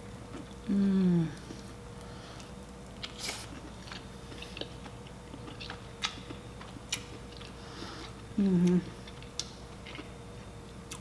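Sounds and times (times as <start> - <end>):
quiet chewing: 1.3 - 10.2.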